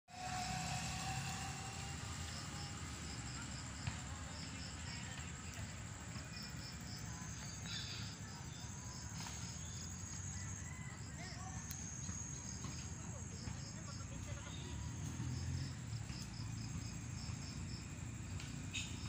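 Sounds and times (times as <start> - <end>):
insect trill: 0.1 - 19.0
insect chirping: 0.2 - 19.0.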